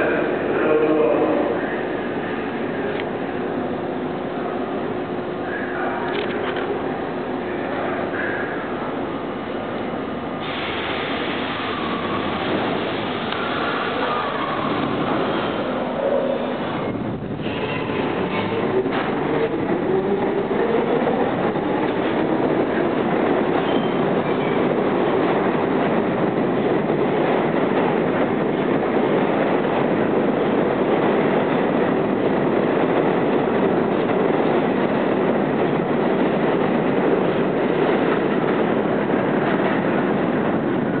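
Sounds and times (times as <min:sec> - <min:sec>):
subway train motor whine: 0:00.0 - 0:41.0
train wheels rumbling on rail: 0:00.0 - 0:41.0.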